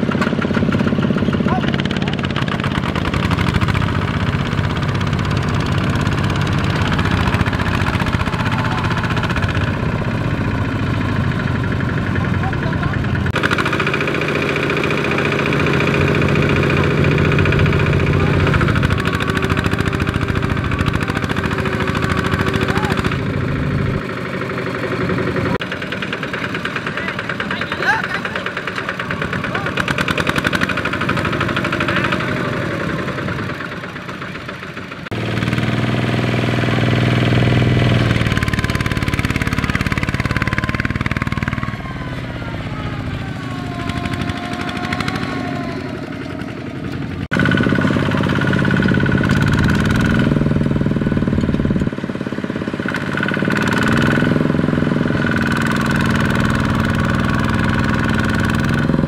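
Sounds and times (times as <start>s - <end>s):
diesel tractor engines chugging: 0.0s - 59.0s.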